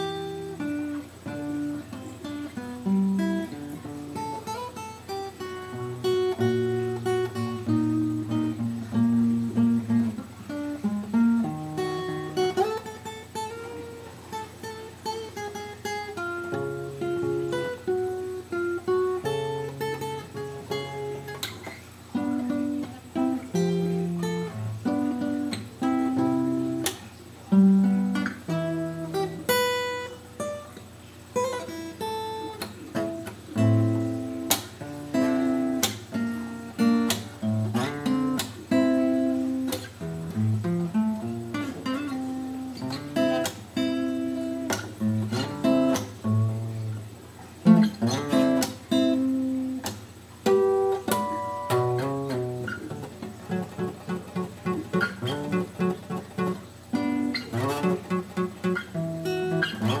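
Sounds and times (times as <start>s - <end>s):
solo guitar playing: 0.0s - 60.0s.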